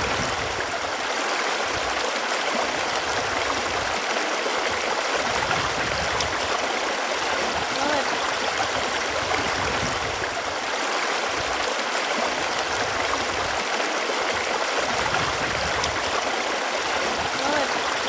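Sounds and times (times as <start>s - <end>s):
running water gurgling: 0.0s - 18.0s.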